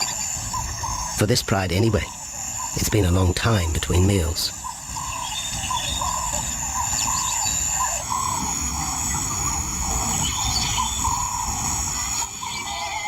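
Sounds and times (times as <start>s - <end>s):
high insect trill: 0.0s - 13.0s
rising and falling call: 0.0s - 13.0s.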